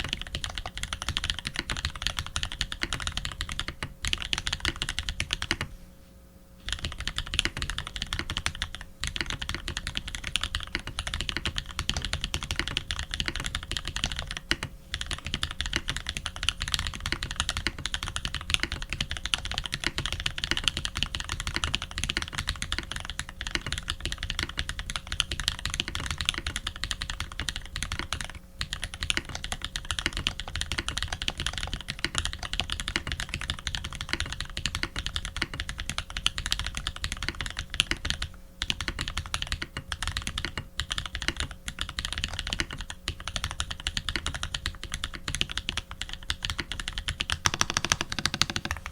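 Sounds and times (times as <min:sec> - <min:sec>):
mechanical keyboard typing: 0:00.0 - 0:05.7, 0:06.7 - 0:48.9.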